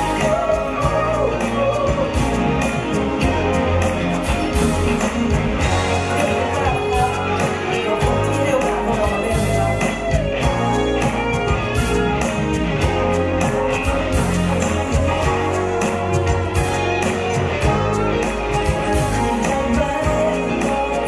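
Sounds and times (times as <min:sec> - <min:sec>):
live pop-rock band playing: 0:00.0 - 0:21.0
male lead vocal: 0:00.0 - 0:21.0.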